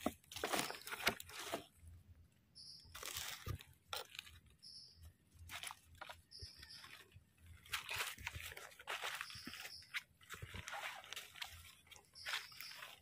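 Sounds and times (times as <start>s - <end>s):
mushroom rustling into basket: 0.0s - 2.0s, 2.8s - 13.0s.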